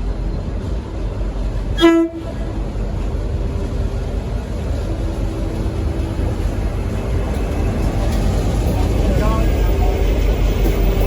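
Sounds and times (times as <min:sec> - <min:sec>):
locomotive engine rumbling: 0:00.0 - 0:11.0.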